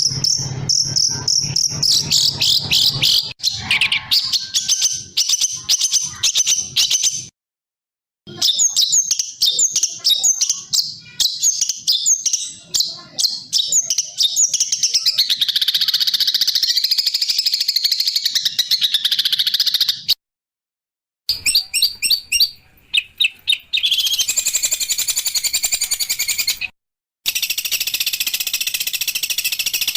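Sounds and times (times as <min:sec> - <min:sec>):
songbird chirps and trills: 0:00.0 - 0:07.3, 0:08.3 - 0:20.2, 0:21.3 - 0:26.7.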